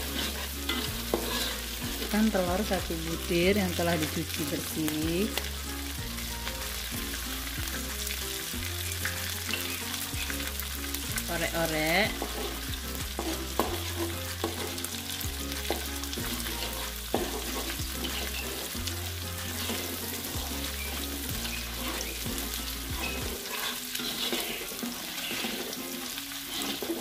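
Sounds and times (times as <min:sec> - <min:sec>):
metal spatula scraping a pan: 0:00.0 - 0:04.7, 0:06.5 - 0:27.0
egg sizzling in a wok: 0:00.0 - 0:27.0.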